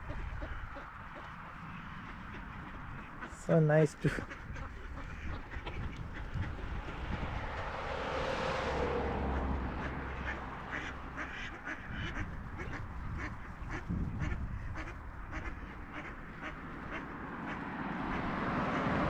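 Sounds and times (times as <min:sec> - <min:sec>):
ducks quacking: 0:00.0 - 0:19.0
low rumble of passing vehicle: 0:00.0 - 0:19.0.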